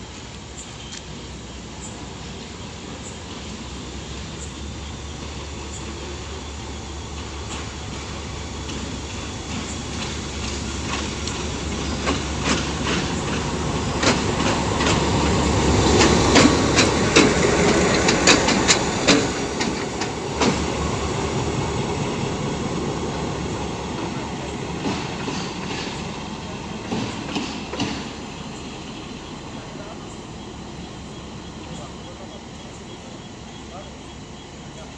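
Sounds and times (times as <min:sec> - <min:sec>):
diesel locomotive rumble: 0:00.0 - 0:34.9
train wheels clacking on rails: 0:00.0 - 0:34.9.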